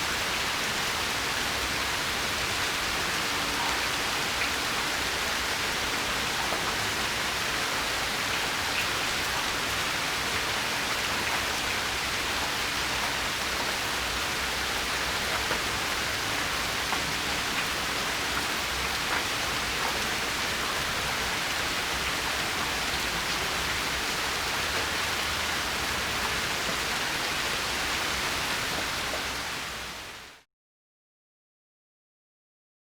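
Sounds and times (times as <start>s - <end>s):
steady rain falling: 0.0s - 30.4s.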